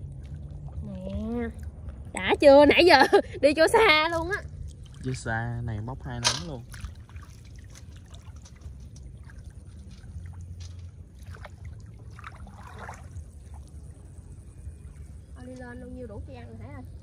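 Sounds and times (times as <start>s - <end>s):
steady low rumble: 0.0s - 17.0s
water sloshing and splashing: 0.0s - 17.0s.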